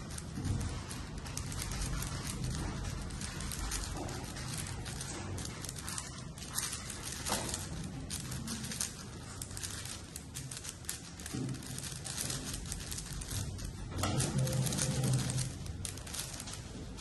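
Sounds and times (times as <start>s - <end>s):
plastic puzzle cube clicking: 0.9s - 17.0s.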